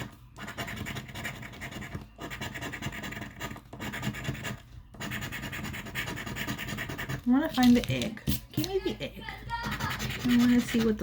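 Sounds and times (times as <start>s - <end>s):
scraping scratch-off ticket: 0.0s - 11.0s.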